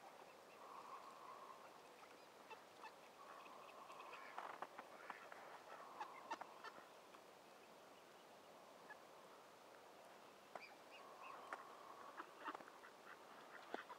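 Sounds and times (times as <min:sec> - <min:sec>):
faint ducks and geese calling: 0:00.0 - 0:13.9.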